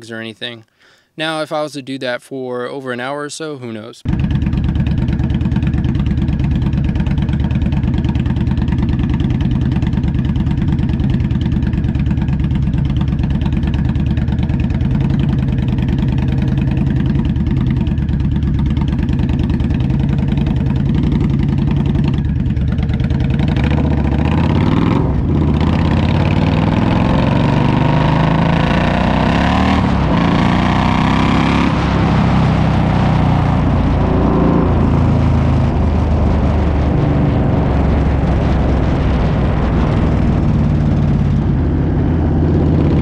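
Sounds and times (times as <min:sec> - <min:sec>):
motorcycle engine throaty exhaust: 0:04.0 - 0:43.0.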